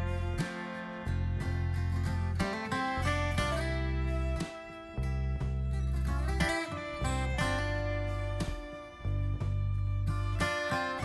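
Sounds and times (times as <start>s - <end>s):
held guitar notes over deep bass: 0.0s - 0.4s, 1.0s - 10.7s.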